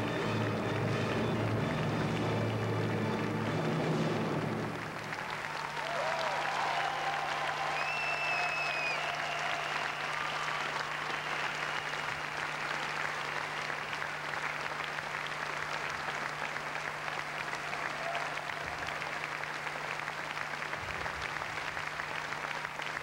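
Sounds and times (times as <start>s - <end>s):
large audience applauding: 0.0s - 23.0s.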